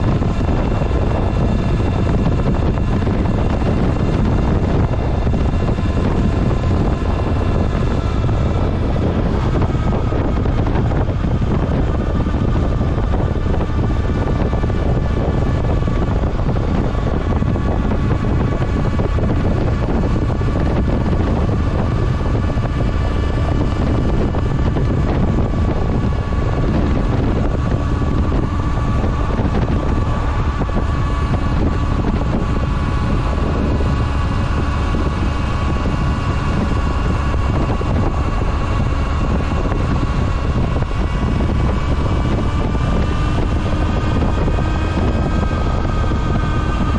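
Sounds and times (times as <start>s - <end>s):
motorcycle engine cruising: 0.0s - 46.9s
wind noise on microphone: 0.0s - 46.9s.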